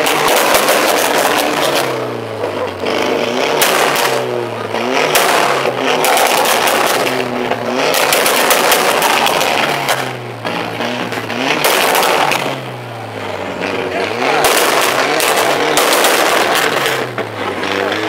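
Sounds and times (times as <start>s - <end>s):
car engine revving: 0.0s - 18.0s
exhaust crackles: 0.0s - 18.0s.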